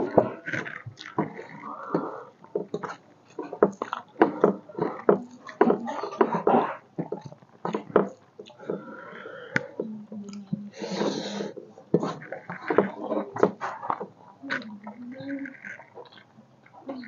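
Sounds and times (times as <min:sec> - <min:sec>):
noisy slurp: 0:00.0 - 0:17.0
wet chewing: 0:00.0 - 0:17.0.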